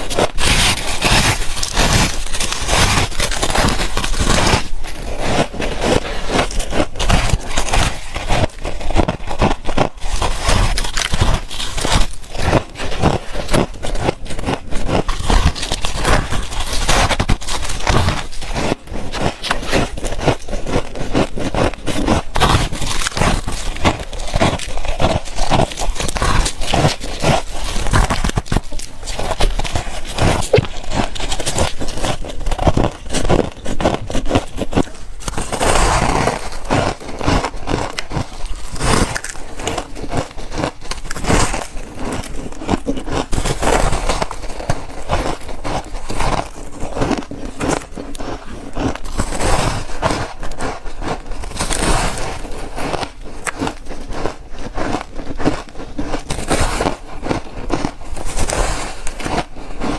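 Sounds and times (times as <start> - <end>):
frost being chewed: 0.0 - 59.9.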